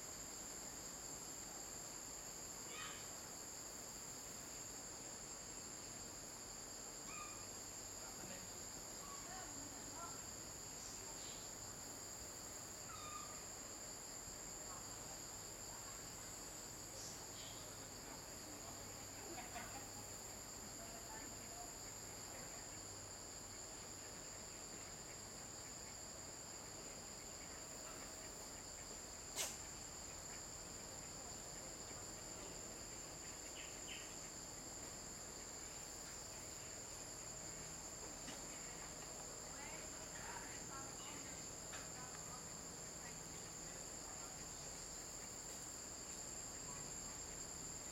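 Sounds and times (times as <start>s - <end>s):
insect chorus buzzing: 0.0s - 47.9s.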